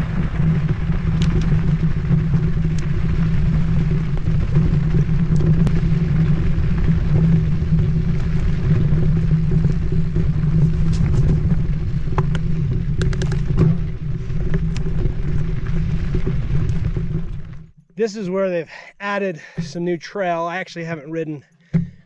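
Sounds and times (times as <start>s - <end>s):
bike clicks and rattles: 0.0s - 17.8s.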